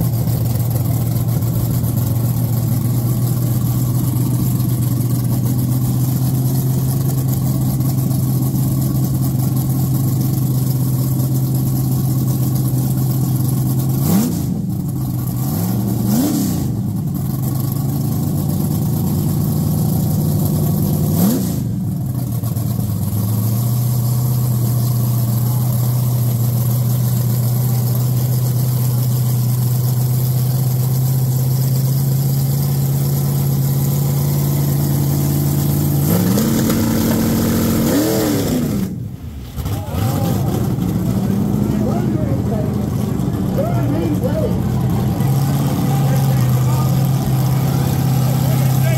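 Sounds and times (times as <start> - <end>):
car engine idling: 0.0 - 48.9
engine throttle blips: 0.0 - 48.9.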